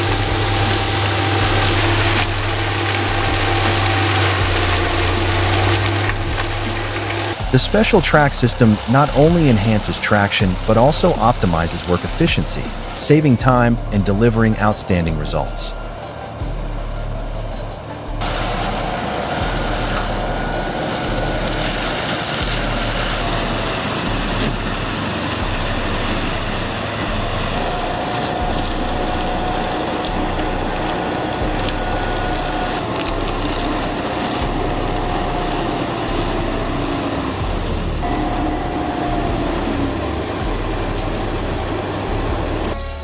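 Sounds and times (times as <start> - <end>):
heavy machine engine running: 0.0 - 43.0.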